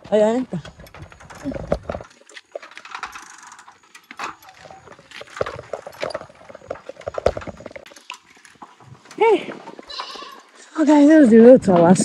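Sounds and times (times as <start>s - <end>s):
bicycle rattling on dirt path: 0.0s - 12.0s.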